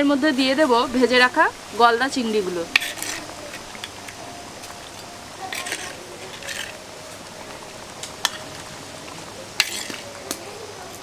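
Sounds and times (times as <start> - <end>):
curry bubbling in a pan: 0.4 - 11.0.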